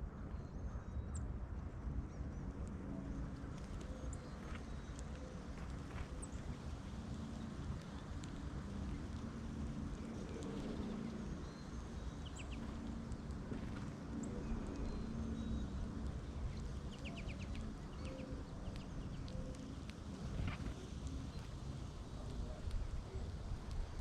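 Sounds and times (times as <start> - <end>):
steady low rumble: 1.1 - 24.0
birds chirping: 3.1 - 23.8.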